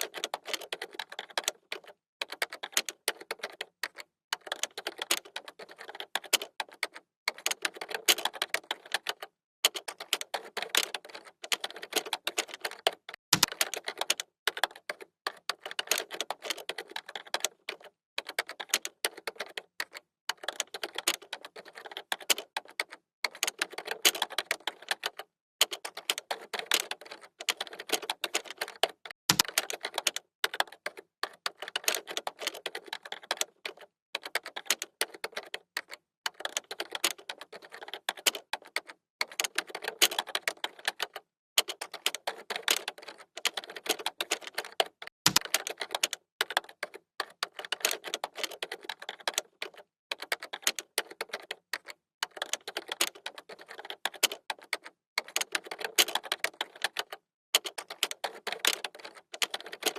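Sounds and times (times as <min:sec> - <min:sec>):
keyboard typing: 0:00.0 - 0:59.9.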